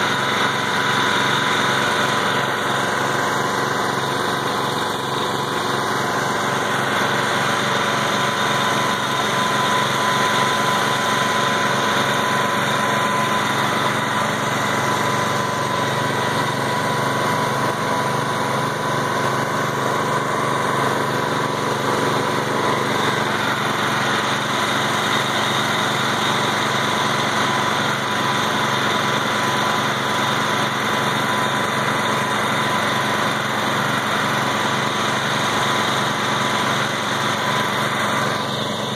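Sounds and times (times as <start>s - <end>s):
drilling rig engine running: 0.0s - 38.9s.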